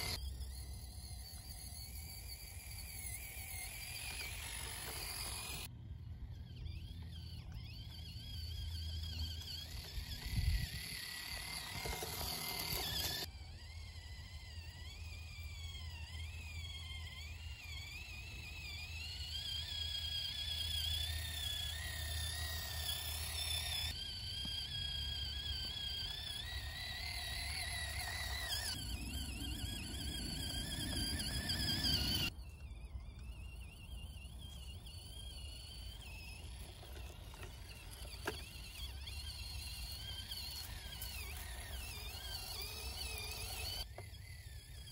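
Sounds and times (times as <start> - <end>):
small electric motor whining: 0.0 - 44.9.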